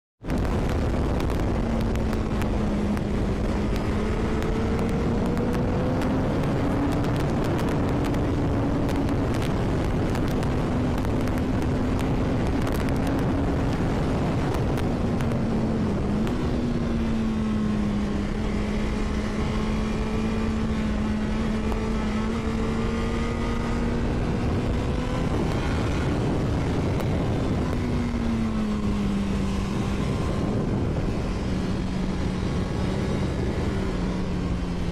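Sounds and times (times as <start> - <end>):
motorcycle engine running: 0.3 - 34.9.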